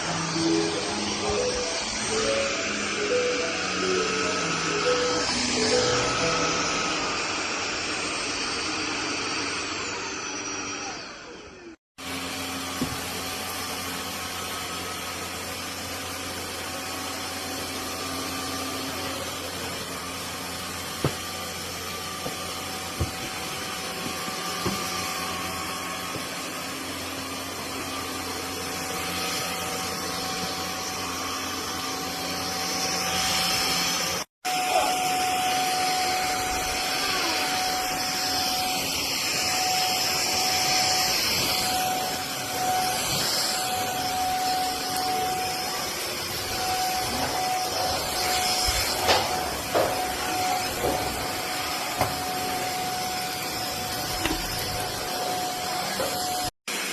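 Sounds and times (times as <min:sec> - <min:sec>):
vacuum cleaner motor whine: 0:00.0 - 0:56.9.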